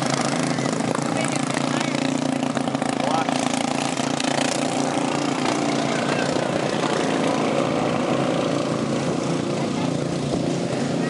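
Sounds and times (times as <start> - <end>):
lawn mower engines racing: 0.0 - 11.0.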